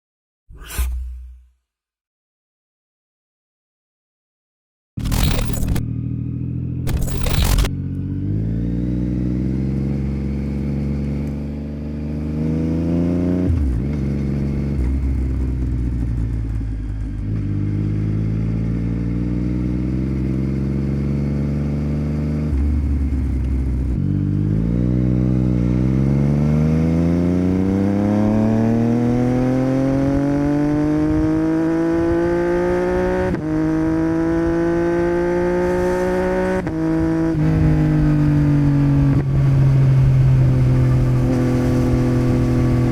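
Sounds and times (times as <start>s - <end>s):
motorcycle engine revving: 5.0s - 42.9s.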